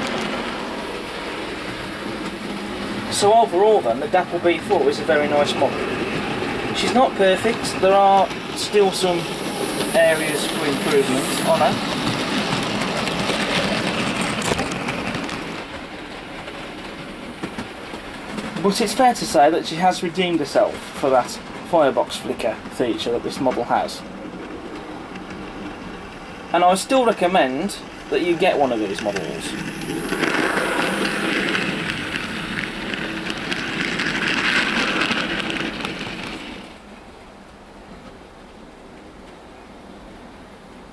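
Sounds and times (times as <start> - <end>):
model train wheels clicking on rails: 0.0 - 23.9, 24.6 - 36.8.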